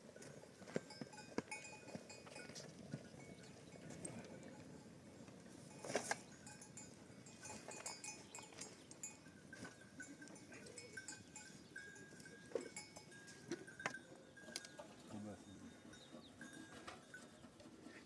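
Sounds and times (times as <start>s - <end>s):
livestock bells clinking: 0.0s - 18.0s.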